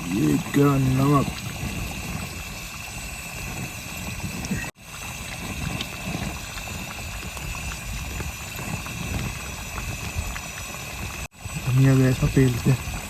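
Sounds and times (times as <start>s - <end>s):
gravy bubbling in a pot: 0.0s - 13.0s.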